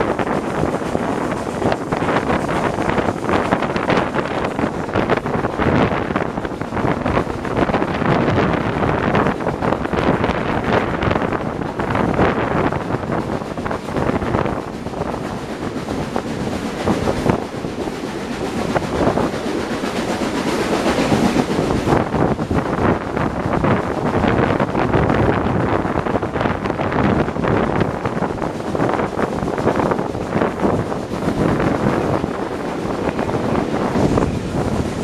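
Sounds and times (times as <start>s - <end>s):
train coaches running on rails: 0.0s - 35.0s
wind buffeting microphone: 0.0s - 35.0s.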